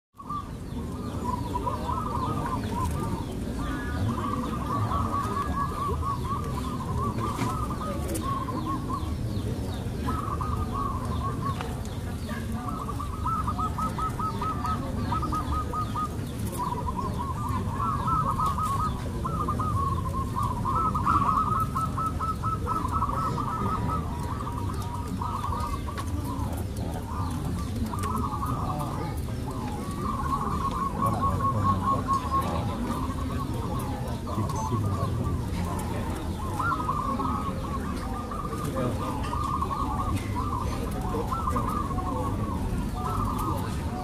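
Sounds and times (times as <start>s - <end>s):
doves cooing: 0.2s - 44.0s.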